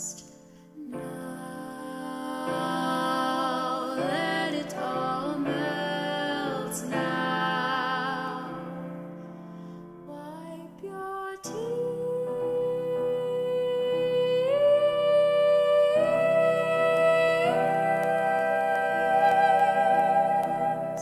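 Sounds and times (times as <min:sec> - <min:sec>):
slow music with wavering melody: 0:00.0 - 0:21.0.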